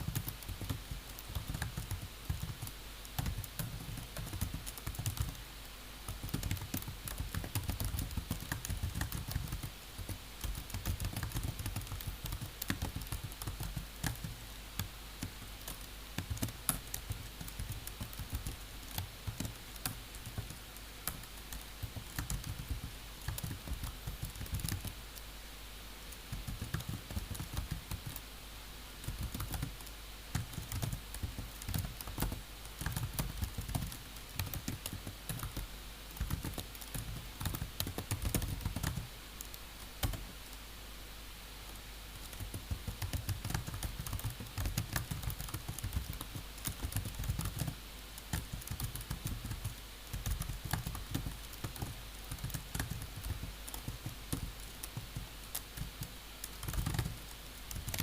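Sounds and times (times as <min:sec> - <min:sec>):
typing on computer keyboard: 0:00.0 - 0:05.4, 0:06.1 - 0:25.0, 0:26.2 - 0:28.2, 0:29.0 - 0:39.1, 0:40.0 - 0:40.2, 0:42.2 - 0:58.0.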